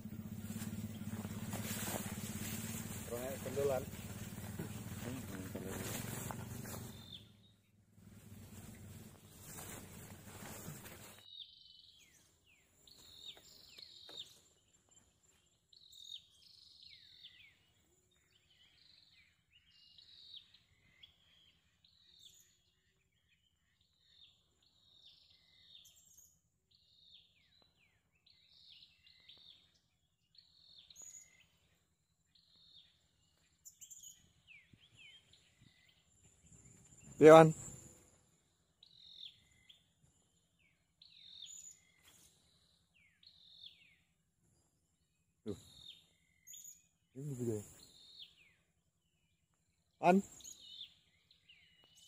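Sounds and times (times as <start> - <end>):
faint bird chirps: 0.0 - 52.0.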